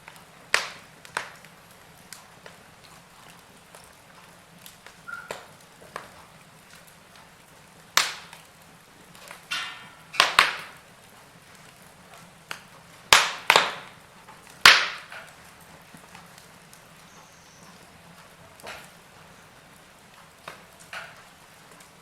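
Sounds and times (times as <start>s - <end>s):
sharp pops of fire: 0.0s - 22.0s
wood fire crackling: 0.0s - 22.0s.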